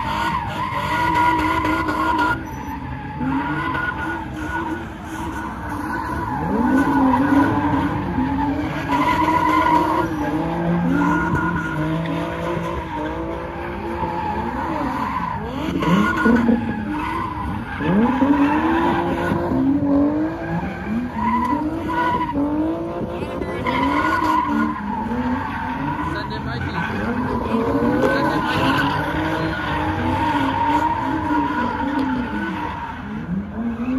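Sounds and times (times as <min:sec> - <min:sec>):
car engines revving: 0:00.0 - 0:33.9
tire screeching: 0:00.0 - 0:33.9.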